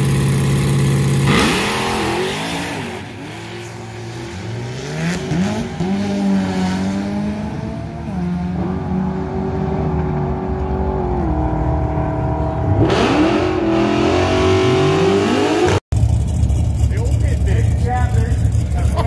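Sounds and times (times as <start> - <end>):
drag car engine at full throttle: 0.0 - 19.0
nearer engine revving: 0.0 - 19.0.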